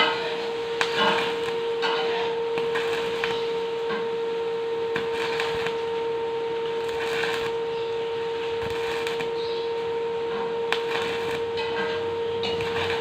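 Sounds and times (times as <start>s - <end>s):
steady hum: 0.0s - 13.0s
welding arc crackling: 0.0s - 13.0s.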